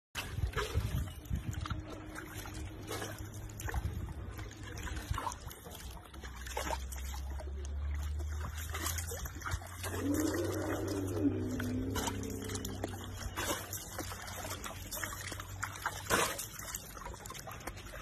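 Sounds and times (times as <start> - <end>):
steady low rumble: 0.2 - 6.1, 6.9 - 16.0
water splashing in plastic tub: 0.2 - 18.0.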